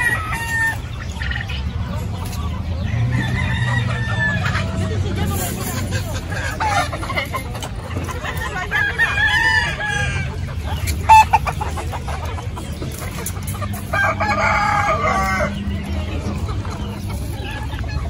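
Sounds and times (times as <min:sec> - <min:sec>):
poultry clucking: 0:00.0 - 0:18.0.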